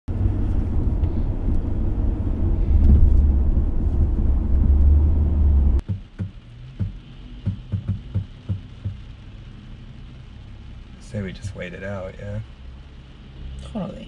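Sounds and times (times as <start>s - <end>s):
car engine rumble: 0.1s - 14.0s.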